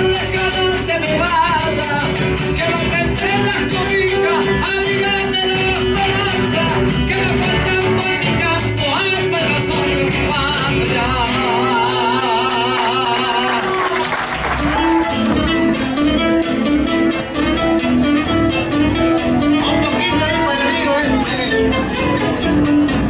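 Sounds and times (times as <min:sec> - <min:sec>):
folk guitar strumming: 0:00.0 - 0:23.0.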